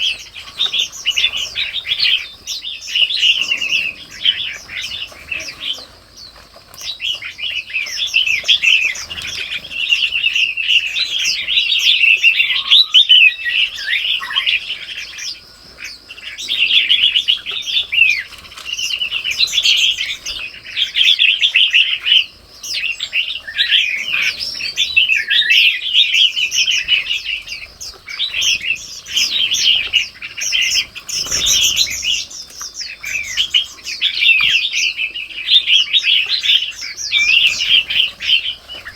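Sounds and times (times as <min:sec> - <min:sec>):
small birds chirping chorus: 0:00.0 - 0:38.9.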